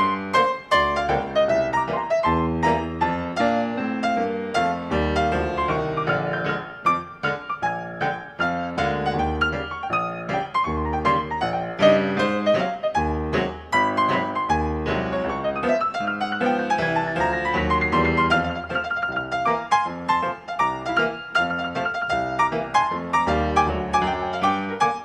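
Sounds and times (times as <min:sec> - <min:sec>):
ragtime piano music: 0:00.0 - 0:25.0.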